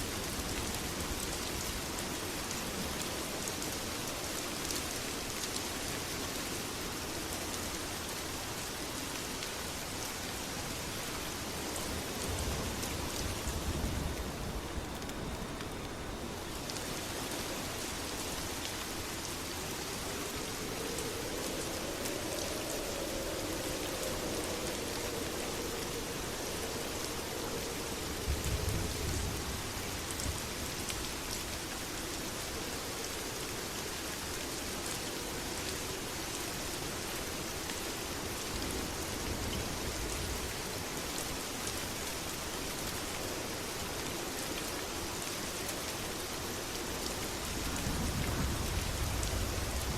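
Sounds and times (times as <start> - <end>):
heavy rain pattering: 0.0 - 49.9.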